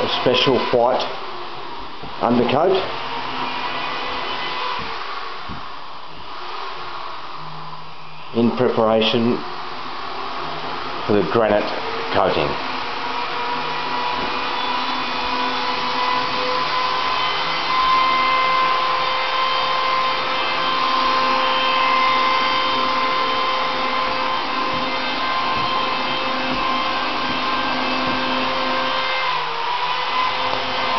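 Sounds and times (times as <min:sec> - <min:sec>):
electric blower motor whining: 0:00.0 - 0:30.9.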